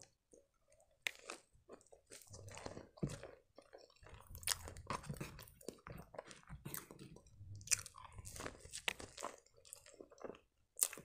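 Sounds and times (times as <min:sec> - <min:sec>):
chewing soft pastry: 0:00.0 - 0:11.0.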